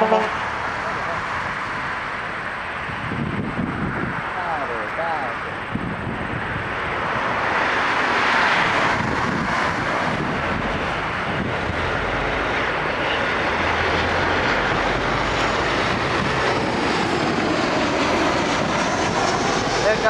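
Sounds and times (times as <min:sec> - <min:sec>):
jet engine rushing whoosh: 0:00.0 - 0:20.0.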